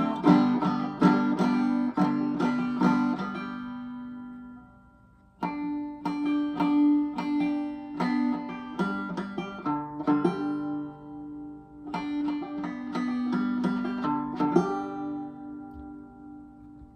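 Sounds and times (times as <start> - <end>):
banjo plucked notes: 0.0 - 16.9.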